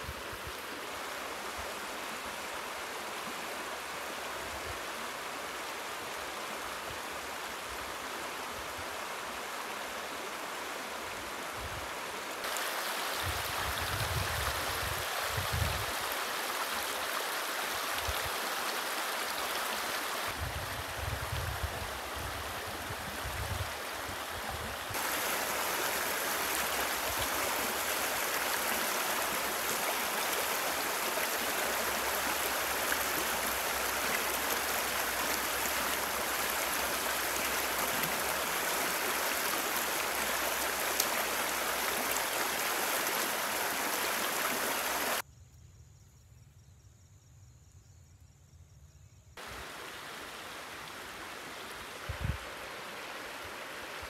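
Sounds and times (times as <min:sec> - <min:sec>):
stream rushing over rocks: 0:00.0 - 0:45.2, 0:49.4 - 0:54.0.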